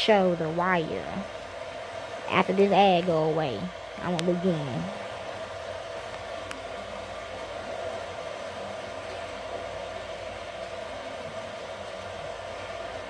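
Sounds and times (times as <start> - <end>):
whooshing appliance hum: 0.0 - 13.0.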